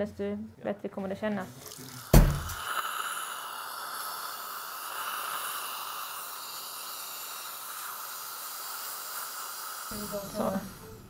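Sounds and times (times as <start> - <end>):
steady hiss: 1.4 - 11.0.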